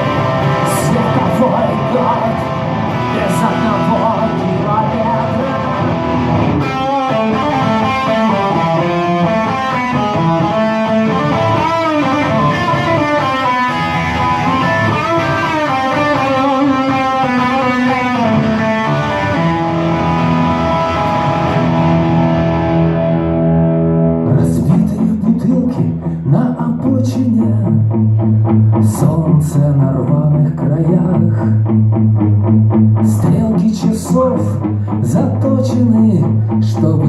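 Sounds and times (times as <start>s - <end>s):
distorted electric guitar lead: 0.0s - 37.0s.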